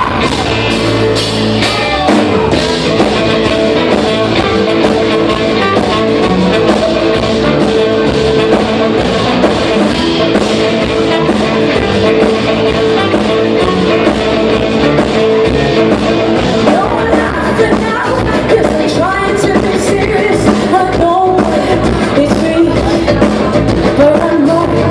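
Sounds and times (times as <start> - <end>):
live rock music: 0.0 - 24.9.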